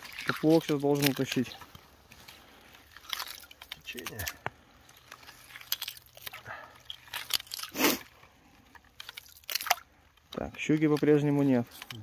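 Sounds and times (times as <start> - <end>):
ice skimmer crunching ice: 0.0 - 12.0.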